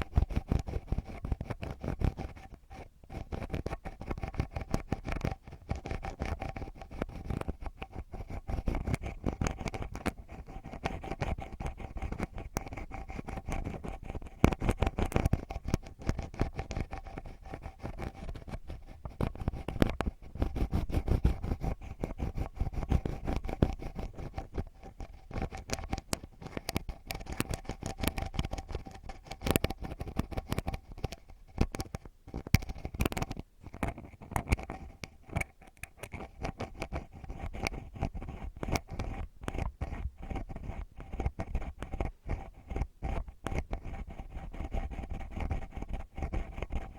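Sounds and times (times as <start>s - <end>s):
ear pick scratching microphone: 0.0s - 46.9s
faint steady hum: 0.0s - 46.9s.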